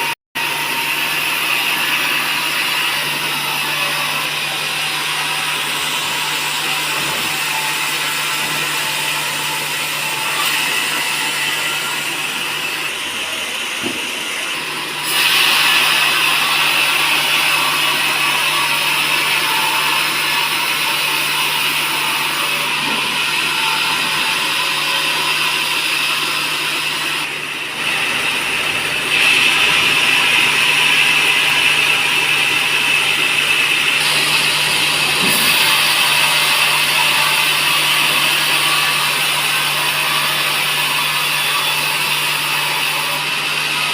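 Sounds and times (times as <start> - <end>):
saw cutting timber: 0.0 - 43.9.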